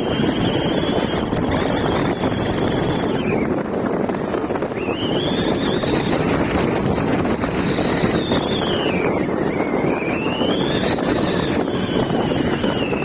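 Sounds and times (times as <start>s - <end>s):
thin high sliding whistle: 0.0s - 3.6s, 4.6s - 13.0s
car road and wind noise: 0.0s - 13.0s.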